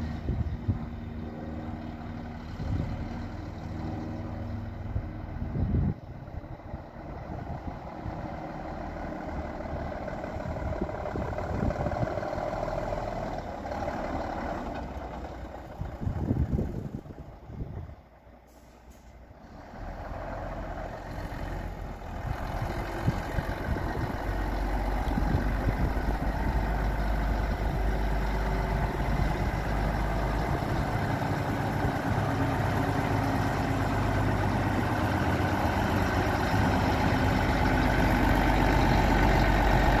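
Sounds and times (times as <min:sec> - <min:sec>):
diesel truck engine reversing: 0:00.0 - 0:40.0.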